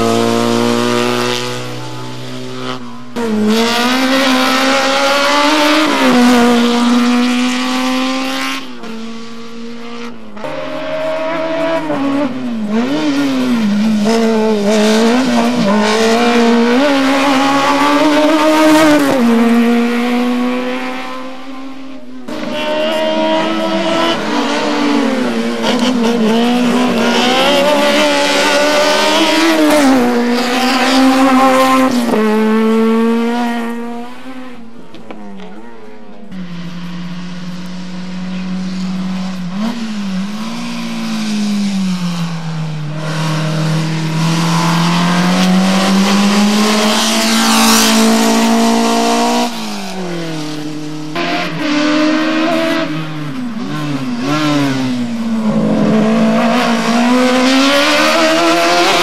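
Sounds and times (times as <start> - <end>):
racing car engines revving: 0.0 - 59.0.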